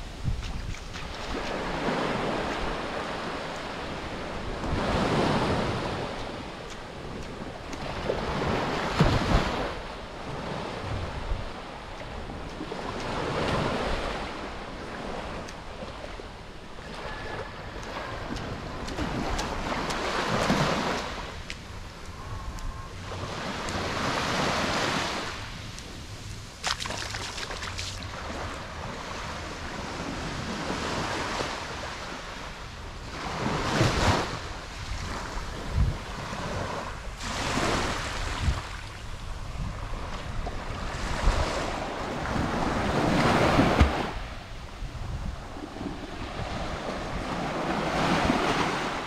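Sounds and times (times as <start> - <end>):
wind buffeting microphone: 0.0 - 24.4, 33.6 - 49.0
waves breaking on a beach: 0.0 - 49.0.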